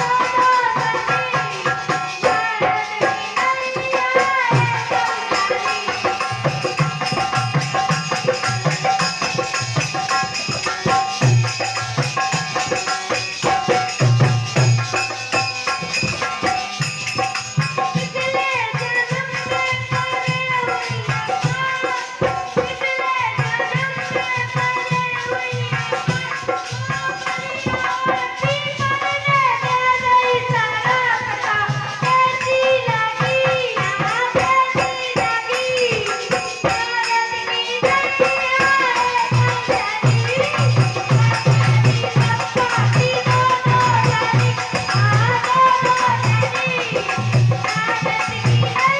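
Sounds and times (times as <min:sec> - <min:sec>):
steady drum beat: 0:00.0 - 0:48.9.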